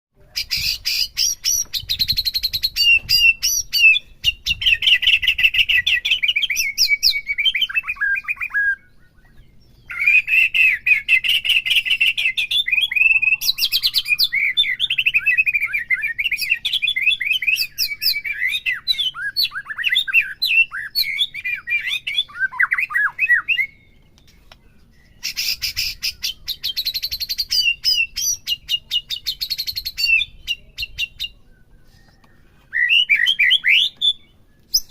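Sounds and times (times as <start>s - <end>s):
bird singing whistles and trills: 0.3s - 34.9s.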